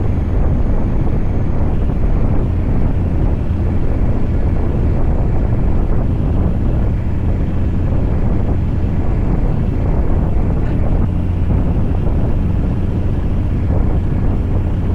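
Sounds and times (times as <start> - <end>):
diesel truck engine droning: 0.0 - 14.9.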